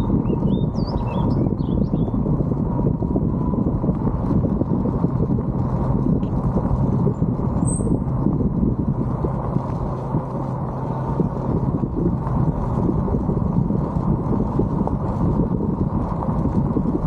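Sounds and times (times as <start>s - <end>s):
tires rumbling on gravel: 0.0s - 17.0s
wind buffeting microphone: 0.0s - 17.0s.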